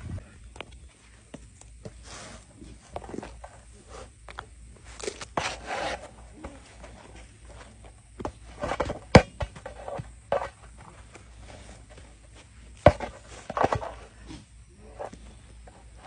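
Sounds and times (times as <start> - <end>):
ball rolling over sandy ground: 0.0 - 16.0.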